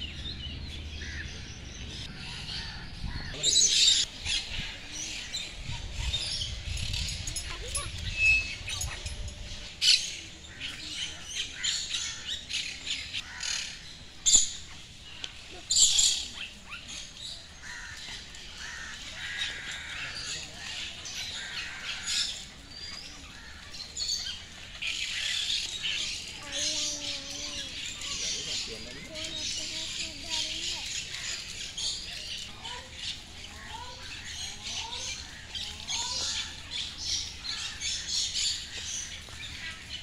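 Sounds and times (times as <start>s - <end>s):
birds chirping and squawking: 0.0s - 40.0s.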